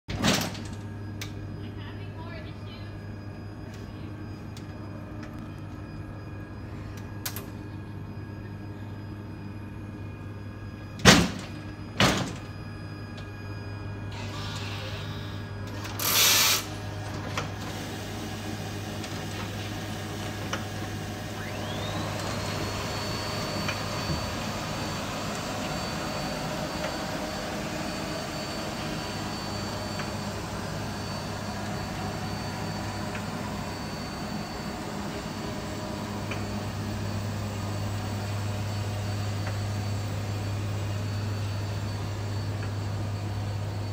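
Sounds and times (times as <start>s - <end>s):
motor whine: 0.3s - 43.9s.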